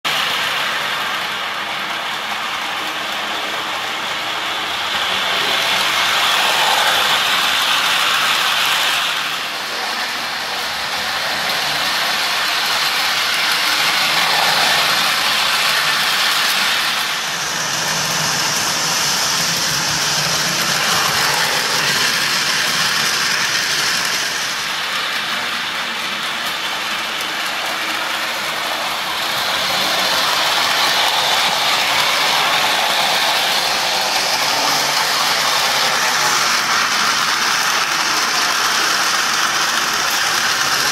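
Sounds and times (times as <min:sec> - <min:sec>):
toy train running on track: 0:00.0 - 0:40.9.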